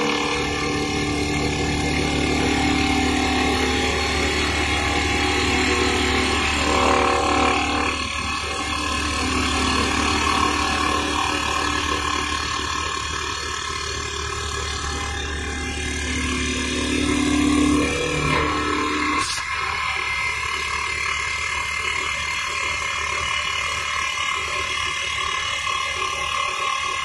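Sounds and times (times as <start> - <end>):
lathe motor hum: 0.0 - 26.7
lathe cutting wood: 0.0 - 27.0.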